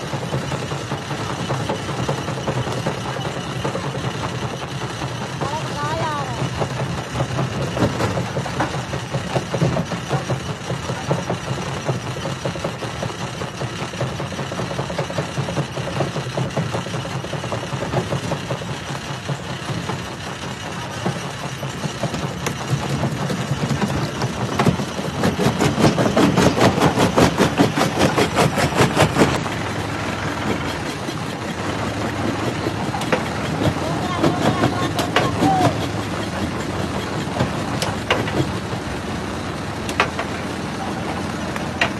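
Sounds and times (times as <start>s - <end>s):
rock crusher clattering: 0.0s - 38.8s, 39.8s - 41.9s.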